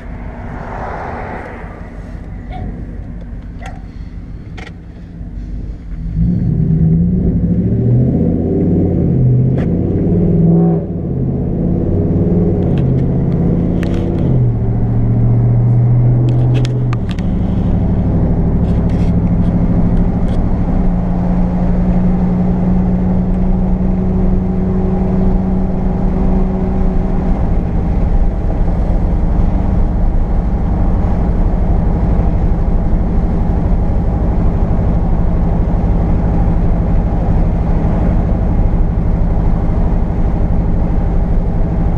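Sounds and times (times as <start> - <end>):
pickup truck engine driving: 0.0 - 41.9.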